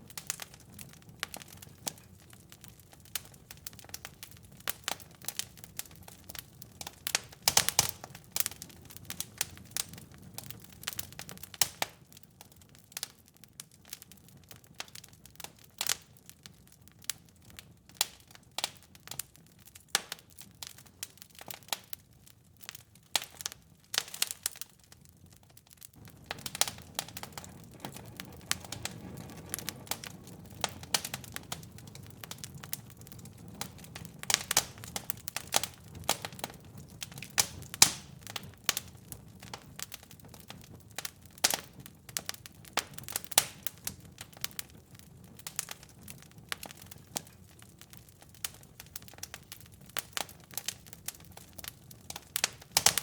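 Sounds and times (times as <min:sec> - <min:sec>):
low fire rumble: 0:00.0 - 0:53.0
wood fire crackling and popping: 0:00.0 - 0:53.0.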